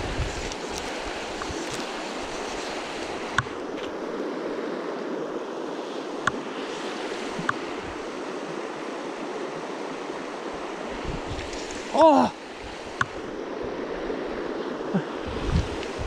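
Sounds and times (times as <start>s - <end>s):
river rushing over gravel: 0.0s - 16.0s.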